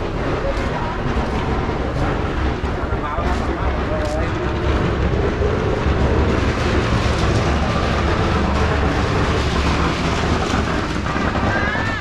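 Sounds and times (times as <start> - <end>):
low rumble with hiss: 0.0 - 12.0.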